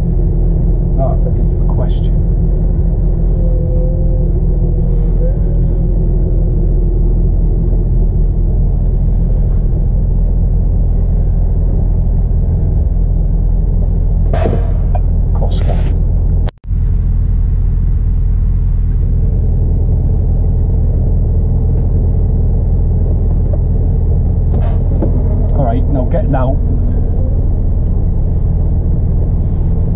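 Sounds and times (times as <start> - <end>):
truck diesel engine rumbling: 0.0 - 29.9.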